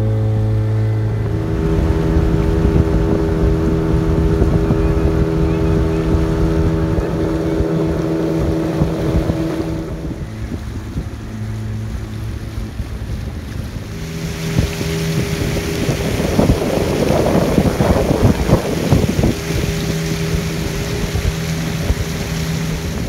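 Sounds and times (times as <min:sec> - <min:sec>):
boat engine running: 0:00.0 - 0:23.0
wind buffeting microphone: 0:00.0 - 0:23.0.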